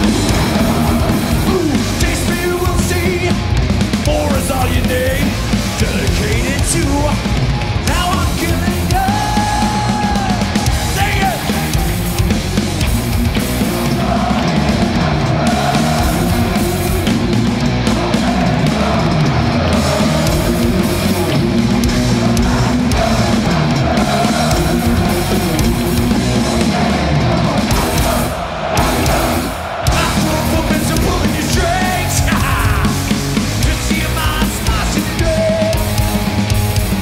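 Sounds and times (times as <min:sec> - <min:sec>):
bass guitar: 0:00.0 - 0:37.0
distorted electric guitars: 0:00.0 - 0:37.0
drum kit: 0:00.0 - 0:37.0.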